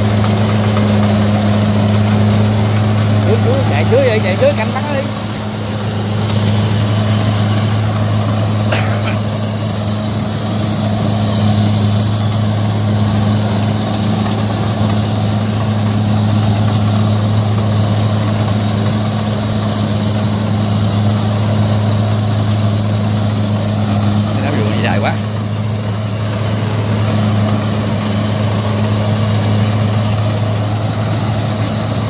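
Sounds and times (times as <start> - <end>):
combine harvester engine drone: 0.0 - 32.0
machinery noise: 0.0 - 32.0.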